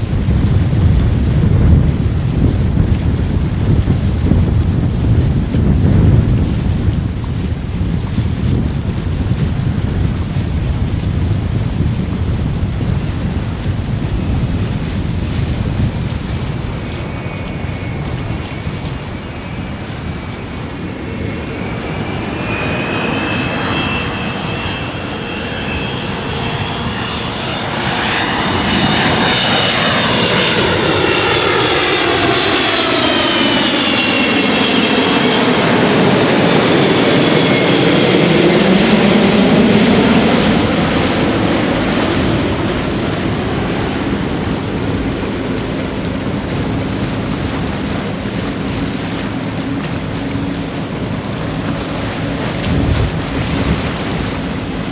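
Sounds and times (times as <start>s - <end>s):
jet airliner passing overhead: 0.0s - 54.9s.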